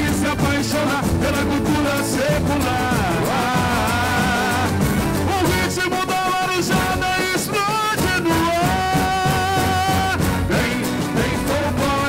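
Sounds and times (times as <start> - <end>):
drum band beat: 0.0 - 12.0
person singing long held lines: 0.0 - 12.0.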